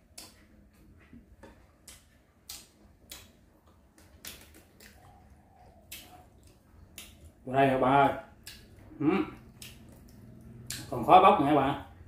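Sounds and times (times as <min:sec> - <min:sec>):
mouth chewing and smacking: 0:00.0 - 0:11.2.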